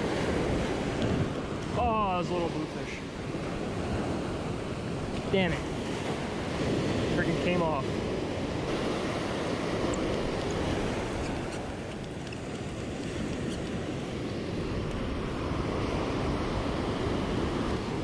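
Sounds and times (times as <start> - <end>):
ocean surf washing up beach: 0.0 - 18.0
wind on the microphone: 0.0 - 18.0.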